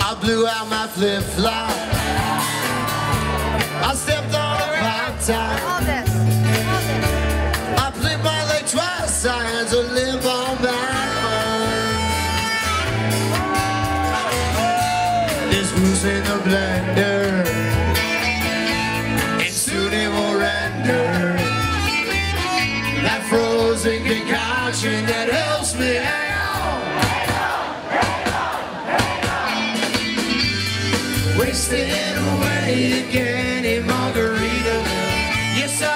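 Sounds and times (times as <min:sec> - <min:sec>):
live rock band playing: 0:00.0 - 0:35.9.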